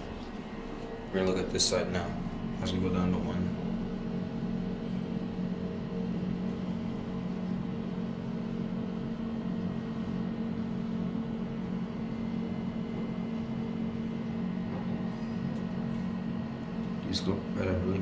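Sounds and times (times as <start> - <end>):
elevator hum: 0.0 - 18.0.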